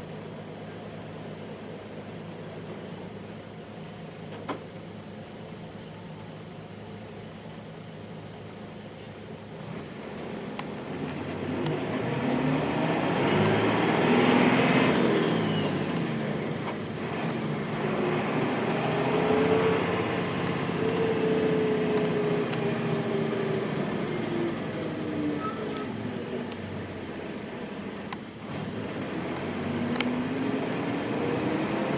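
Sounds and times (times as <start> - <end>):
bus diesel engine driving: 0.0 - 31.9.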